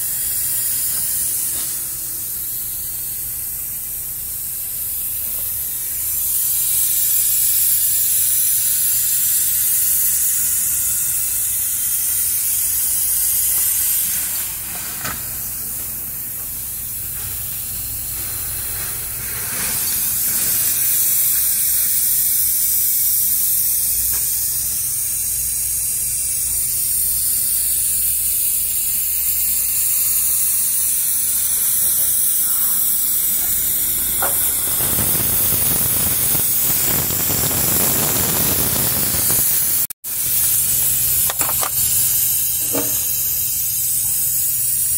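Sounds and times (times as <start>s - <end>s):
loud high hiss: 0.0s - 44.9s.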